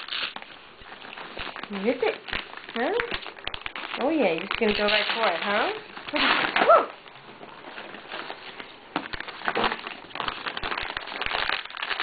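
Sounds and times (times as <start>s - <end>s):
wrapping paper crinkling and tearing: 0.0s - 12.0s.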